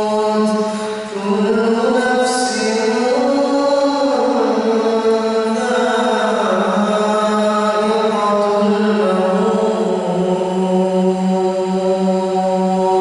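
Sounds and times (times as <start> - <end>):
man chanting through microphone: 0.0 - 13.0.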